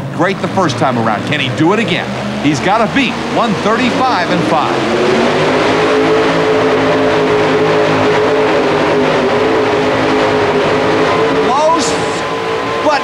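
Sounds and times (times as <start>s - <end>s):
truck engine running hard: 0.0s - 13.0s.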